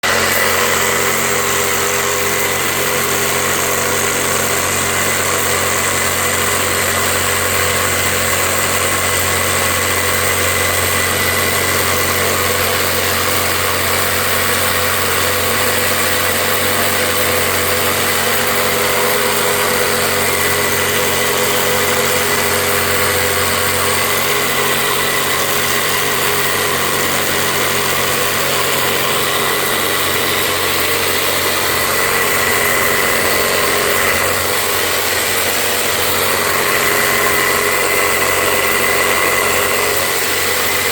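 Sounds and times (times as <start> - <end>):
pressure washer running: 0.0 - 40.9.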